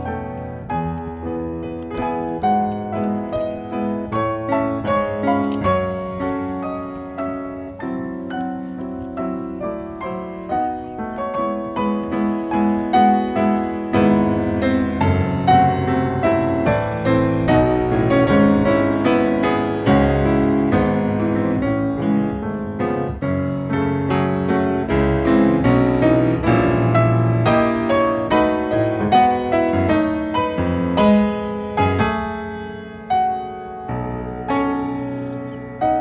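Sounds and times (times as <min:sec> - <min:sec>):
gentle piano music: 0:00.0 - 0:36.0.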